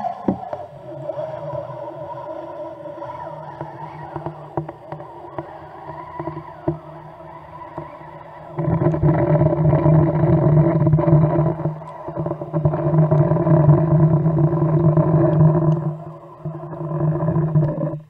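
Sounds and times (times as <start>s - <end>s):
boat engine drone underwater: 0.0s - 18.0s
faint clicks: 0.0s - 18.0s.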